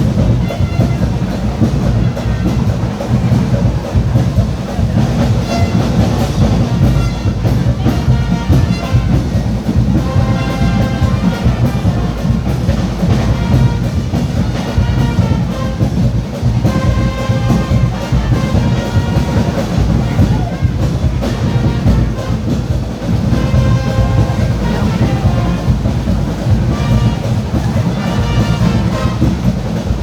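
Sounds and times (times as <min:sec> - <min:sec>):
brass band playing: 0:00.0 - 0:30.0
steady drum beat: 0:00.0 - 0:30.0.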